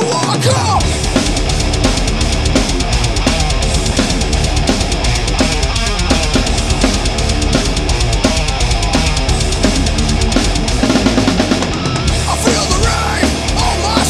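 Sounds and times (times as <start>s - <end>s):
driving drum beat: 0.0s - 14.0s
loud rock music: 0.0s - 14.0s.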